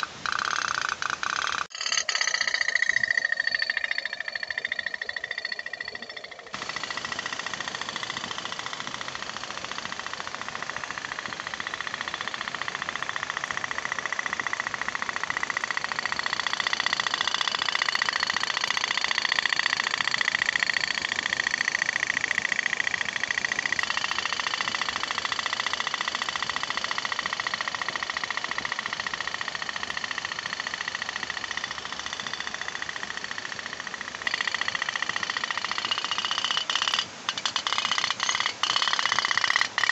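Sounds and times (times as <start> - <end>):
toy boat putt-putt: 0.0 - 39.9.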